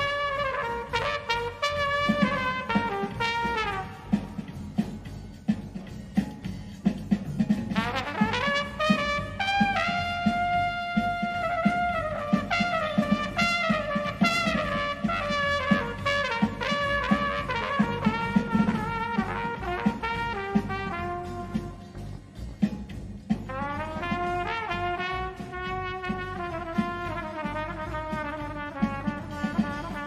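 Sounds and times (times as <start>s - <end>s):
solo brass horn melody: 0.0s - 4.4s, 7.8s - 22.0s, 23.5s - 30.0s.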